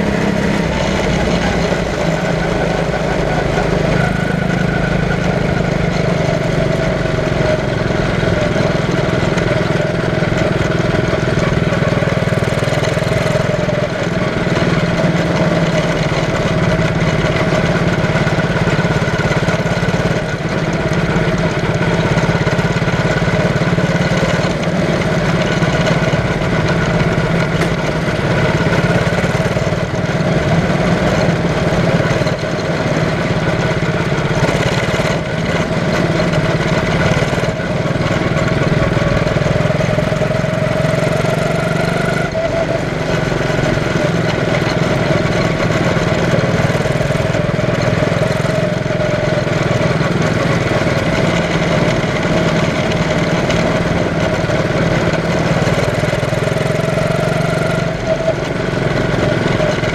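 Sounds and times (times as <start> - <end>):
small race car engine running: 0.0 - 59.9.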